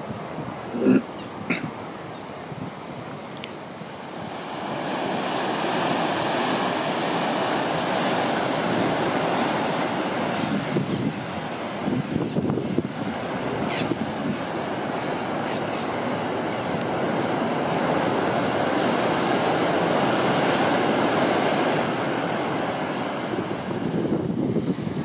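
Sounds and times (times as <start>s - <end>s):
ocean waves breaking on rocks: 1.5s - 25.0s.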